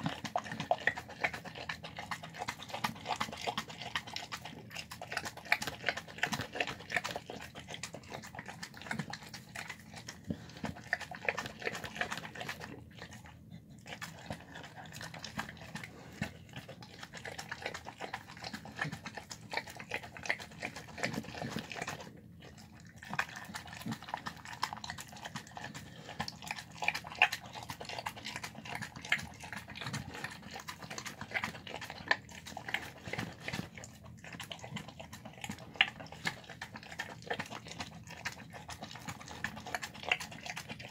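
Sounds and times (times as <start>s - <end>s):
dog chewing and lapping: 0.0s - 40.9s.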